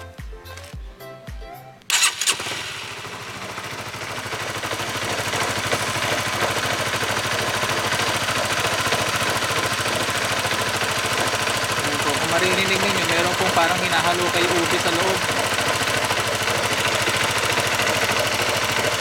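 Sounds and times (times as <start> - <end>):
engine metallic knocking rumble: 1.9 - 19.0.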